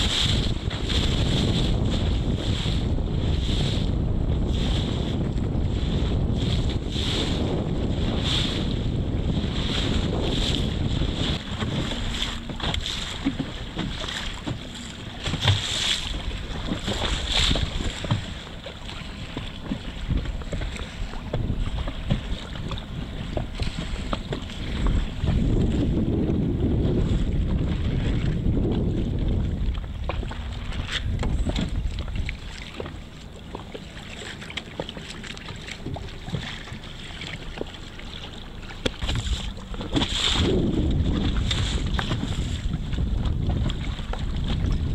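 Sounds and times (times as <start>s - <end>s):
water splashing and slapping: 0.0s - 44.9s
wind buffeting microphone: 0.0s - 44.9s.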